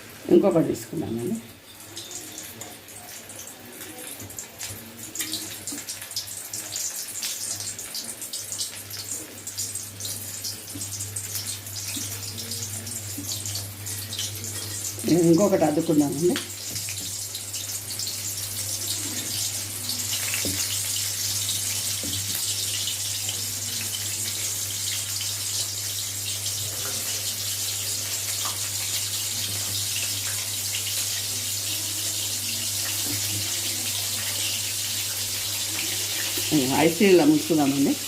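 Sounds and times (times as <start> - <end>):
chicken deep-frying in oil: 0.0 - 38.0.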